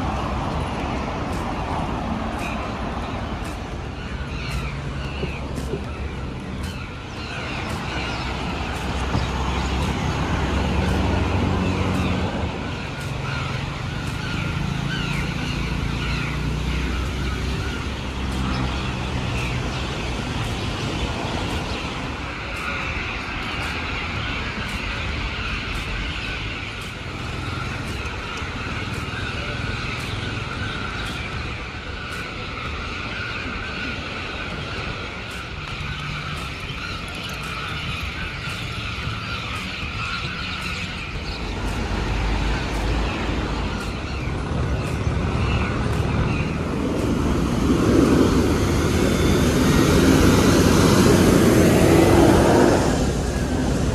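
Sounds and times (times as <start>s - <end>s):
steady street noise: 0.0s - 53.9s
vehicle engines passing: 0.0s - 53.9s.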